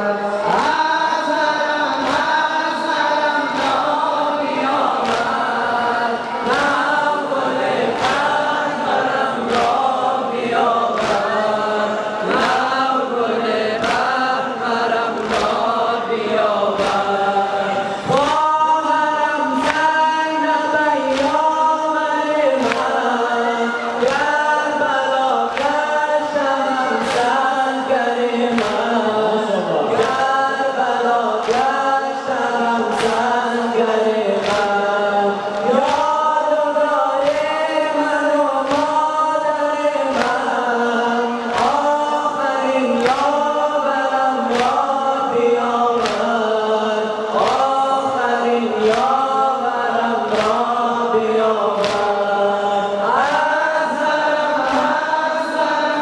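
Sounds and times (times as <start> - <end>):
men chanting through a pa: 0.0 - 56.0.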